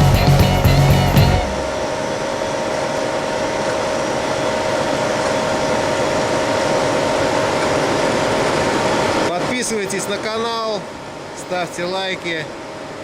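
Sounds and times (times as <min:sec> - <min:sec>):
machine humming with whine: 0:00.0 - 0:13.0.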